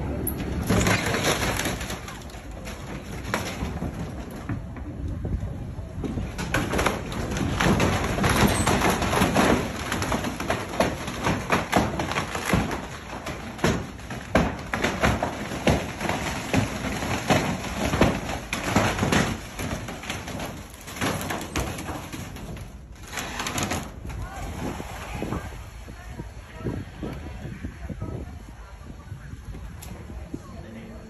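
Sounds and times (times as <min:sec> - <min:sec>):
wooden dock cracking and splintering: 0:00.0 - 0:25.9.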